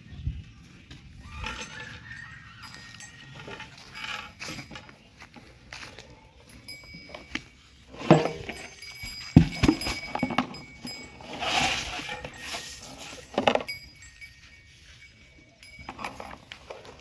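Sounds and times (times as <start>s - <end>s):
buffalo stirring: 1.2s - 17.0s
metallic clinks: 1.3s - 5.1s, 6.2s - 17.0s.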